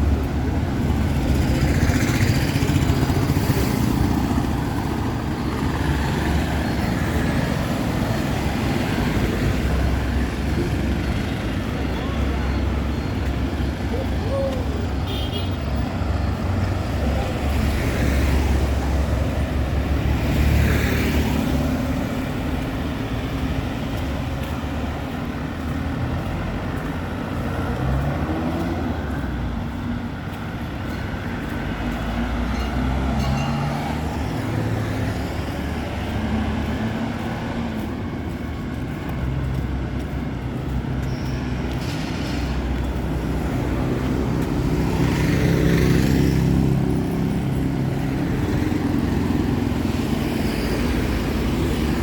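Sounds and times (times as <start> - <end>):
traffic engines running: 0.0 - 52.0
vehicles passing close by: 0.0 - 52.0.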